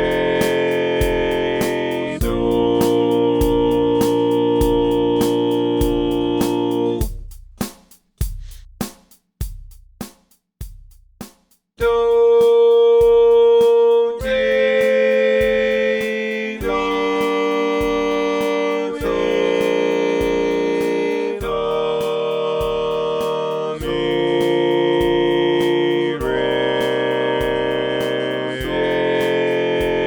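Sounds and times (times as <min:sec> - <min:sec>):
synthesized reed-like chords: 0:00.0 - 0:07.1, 0:11.8 - 0:30.0
ticking beat: 0:00.0 - 0:30.0.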